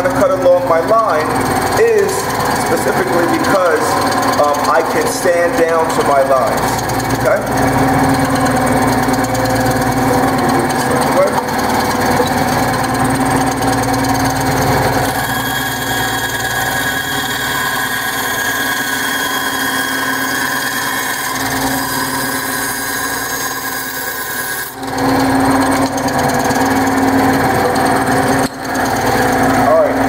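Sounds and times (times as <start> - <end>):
bandsaw cutting wood: 0.0 - 30.0.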